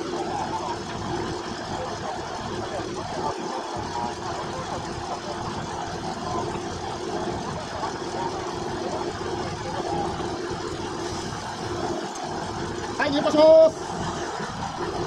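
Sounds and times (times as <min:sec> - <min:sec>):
diesel locomotive engine running: 0:00.0 - 0:15.0
faint voices: 0:00.0 - 0:15.0.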